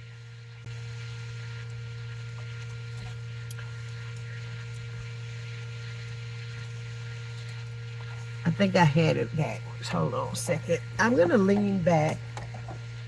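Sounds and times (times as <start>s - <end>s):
portable fan humming: 0.0s - 13.0s.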